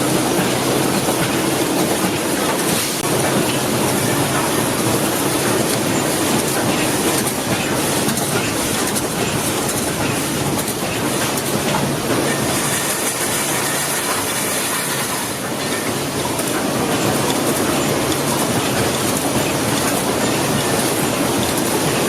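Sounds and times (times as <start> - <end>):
welding machine clatter and hiss: 0.0 - 22.0.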